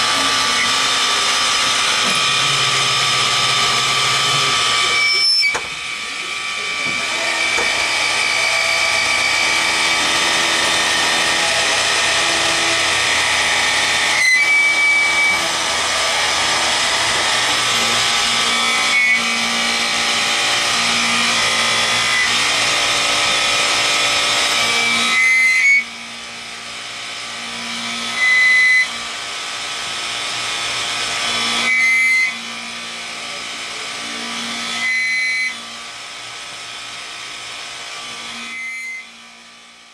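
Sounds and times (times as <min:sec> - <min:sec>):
milling spindle whine: 0:00.0 - 0:39.8
metal cutting noise: 0:00.0 - 0:39.9.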